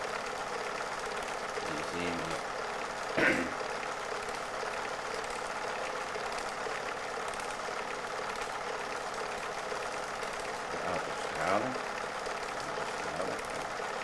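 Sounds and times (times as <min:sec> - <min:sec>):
film projector whirring: 0:00.0 - 0:14.0.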